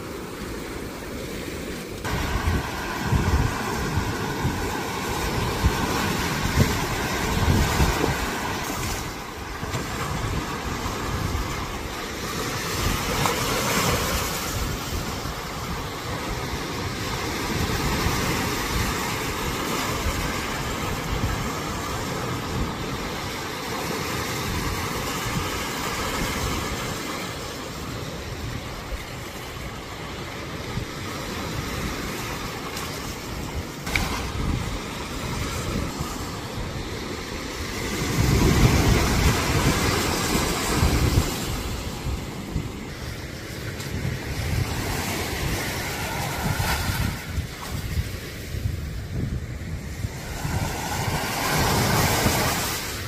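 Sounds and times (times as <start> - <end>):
small waves washing: 0.0 - 53.0
wind rumbling on microphone: 0.0 - 53.0.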